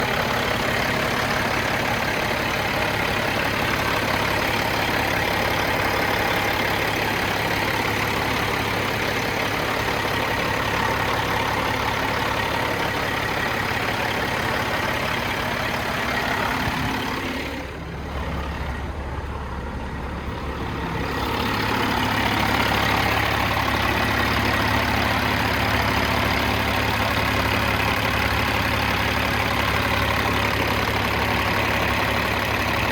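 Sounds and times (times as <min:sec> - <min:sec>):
diesel truck engine idling: 0:00.0 - 0:32.9.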